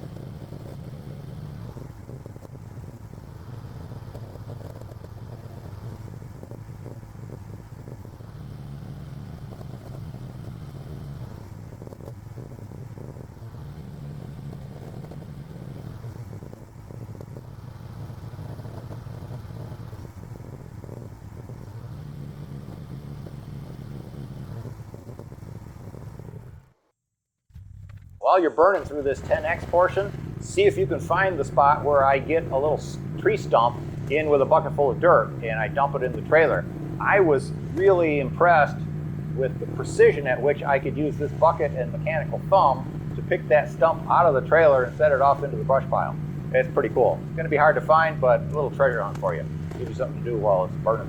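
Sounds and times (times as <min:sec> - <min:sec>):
excavator engine working: 0:00.0 - 0:26.8, 0:27.5 - 0:51.0.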